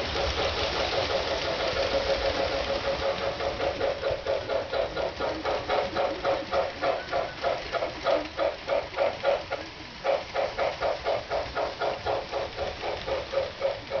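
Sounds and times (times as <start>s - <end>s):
electronic steam chuffing: 0.0s - 14.0s
model train rumbling on track: 0.0s - 14.0s.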